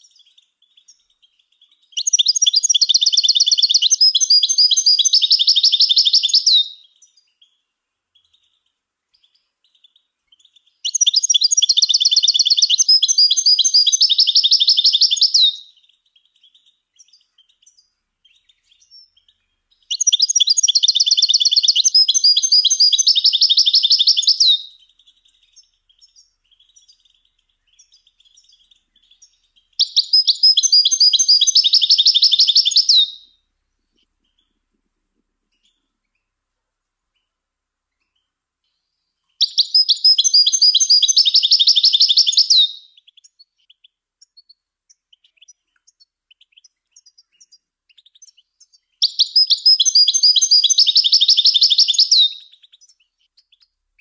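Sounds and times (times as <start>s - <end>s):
finch singing: 0.0s - 34.6s, 35.5s - 36.3s, 37.1s - 54.0s.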